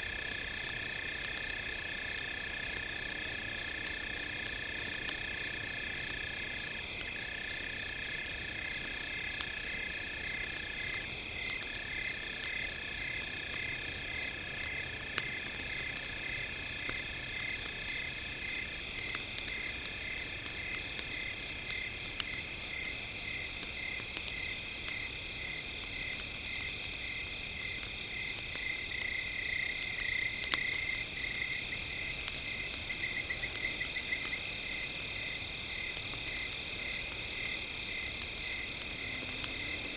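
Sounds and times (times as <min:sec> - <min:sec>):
campfire crackles: 0:00.0 - 0:39.9.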